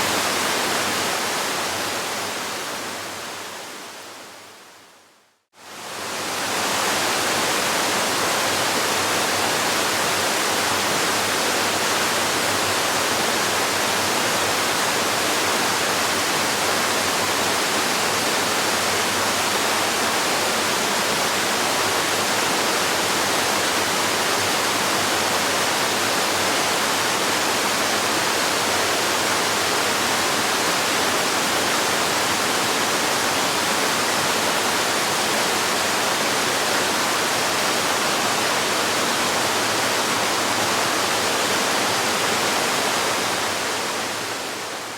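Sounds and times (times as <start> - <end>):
waterfall rushing: 5.8 - 44.9.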